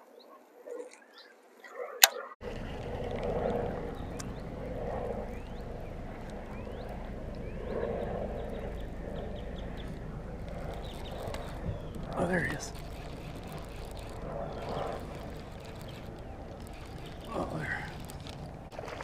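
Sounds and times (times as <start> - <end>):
low rumbling noise: 2.4 - 19.0
rising bird chirps: 2.5 - 18.4.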